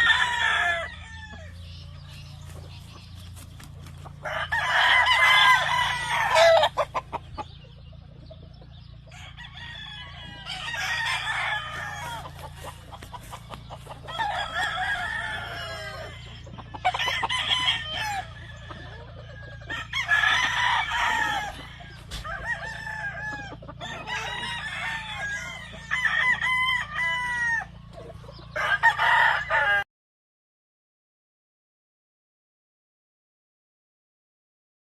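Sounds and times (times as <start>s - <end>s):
steady low hum: 0.0s - 29.5s
roosters crowing: 0.0s - 29.9s.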